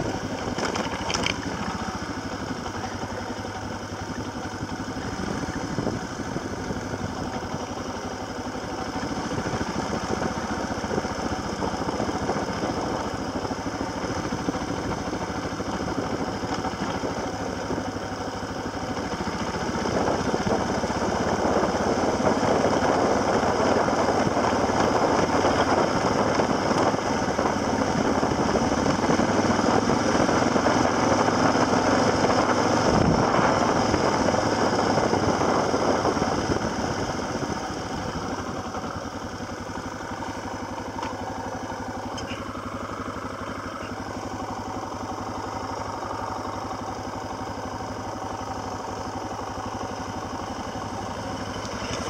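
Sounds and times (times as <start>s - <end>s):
off-road vehicle engine running: 0.0s - 52.0s.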